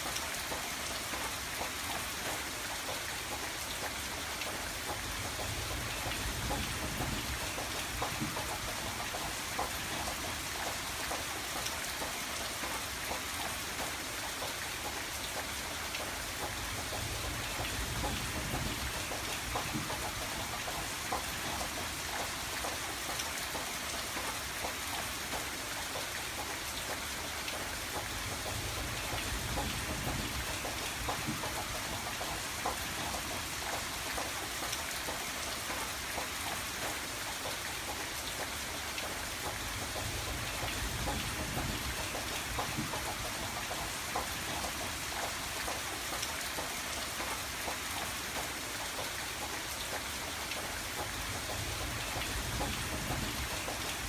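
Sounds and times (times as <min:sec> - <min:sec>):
rain tapping on window glass: 0:00.0 - 0:54.0.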